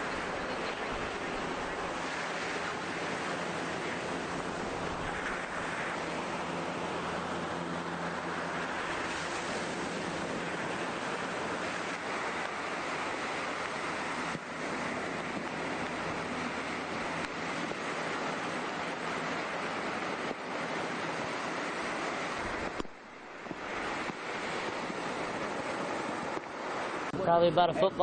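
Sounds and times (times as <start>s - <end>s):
ocean surf: 0.0s - 28.0s
wind noise on microphone: 0.0s - 28.0s.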